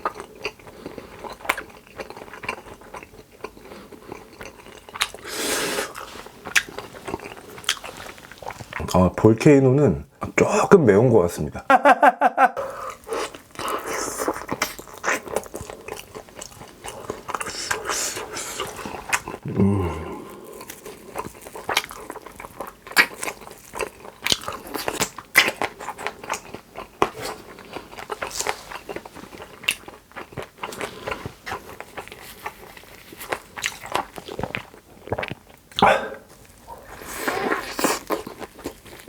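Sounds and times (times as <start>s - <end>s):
biting and chewing: 0.0s - 9.0s, 12.9s - 39.0s.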